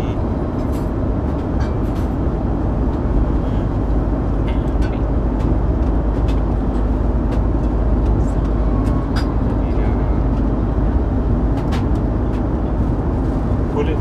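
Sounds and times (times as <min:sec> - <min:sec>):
airliner cabin noise: 0:00.0 - 0:14.0.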